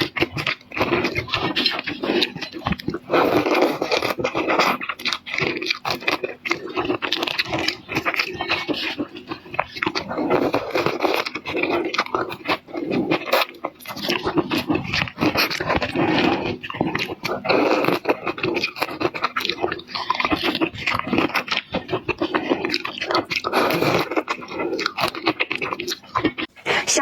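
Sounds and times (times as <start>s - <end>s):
person chewing and smacking: 0.0s - 27.0s.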